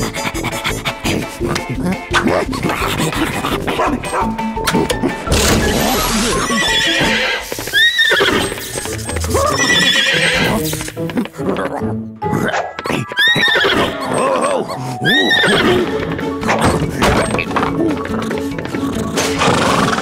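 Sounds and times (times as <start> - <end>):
cartoon background music: 0.0 - 20.0.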